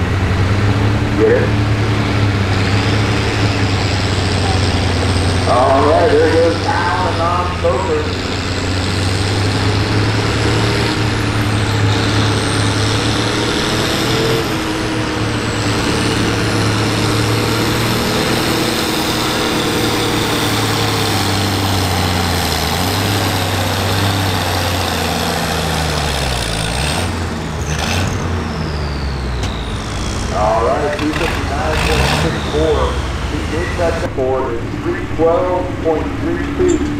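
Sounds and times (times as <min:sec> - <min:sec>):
tractor engine under load: 0:00.0 - 0:36.9.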